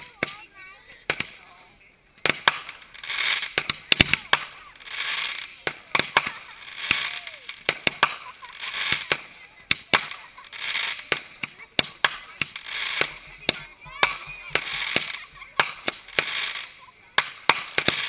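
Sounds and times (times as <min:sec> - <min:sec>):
fireworks bangs and pops: 0:00.0 - 0:01.5, 0:02.2 - 0:18.0
firework fountain hissing and crackling: 0:00.0 - 0:18.0.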